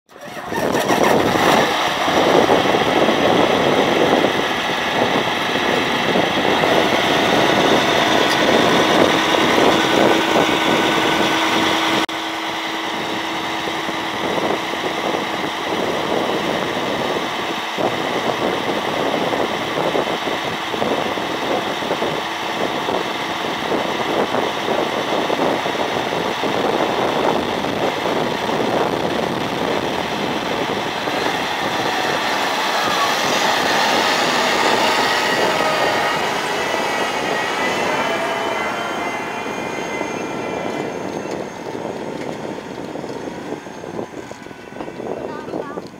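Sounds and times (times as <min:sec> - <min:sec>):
tractor diesel engine under load: 0:00.0 - 0:45.9.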